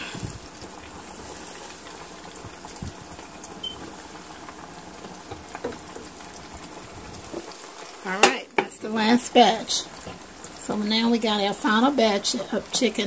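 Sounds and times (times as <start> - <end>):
chicken deep-frying in grease: 0.0 - 13.0.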